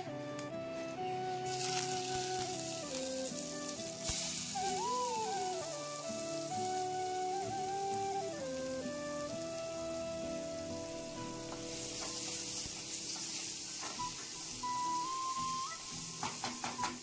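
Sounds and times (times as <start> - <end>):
background music with held tones: 0.0 - 17.0
onions sizzling in a pan: 0.0 - 17.0.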